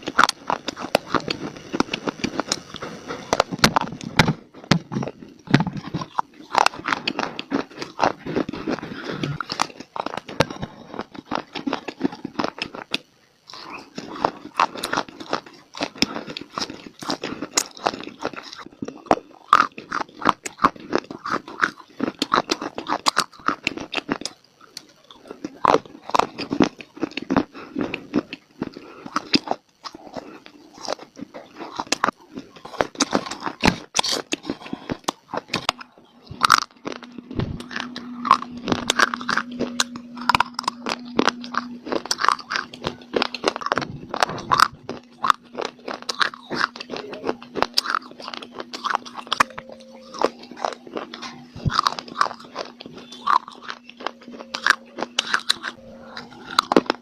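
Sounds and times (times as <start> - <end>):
crunching and chewing clay: 0.0 - 57.0
low steady hum: 0.0 - 57.0.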